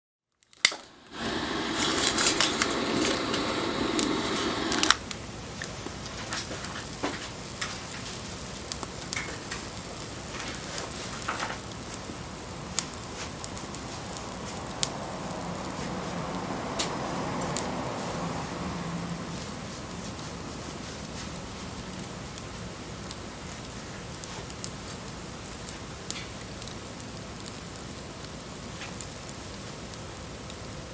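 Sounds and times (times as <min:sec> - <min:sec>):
wood fire crackling and popping: 0:00.3 - 0:30.9.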